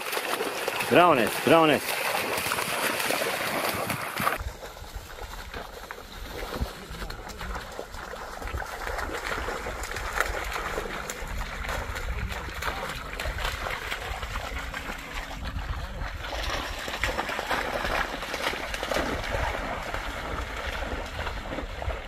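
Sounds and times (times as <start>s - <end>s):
splashing through shallow water: 0.0s - 22.0s.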